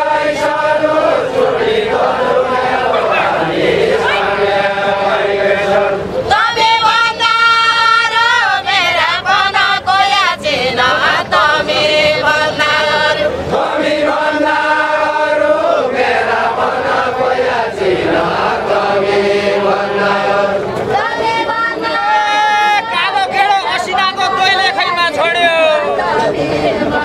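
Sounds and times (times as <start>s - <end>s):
group singing in unison: 0.0s - 27.0s.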